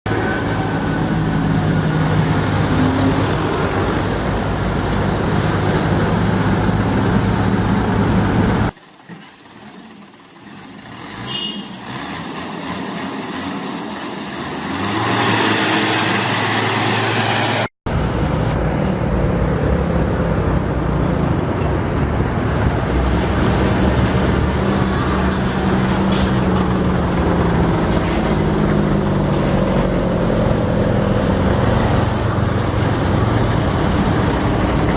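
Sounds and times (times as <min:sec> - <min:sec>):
road noise: 0:00.0 - 0:34.9
truck engines under load: 0:00.1 - 0:34.9.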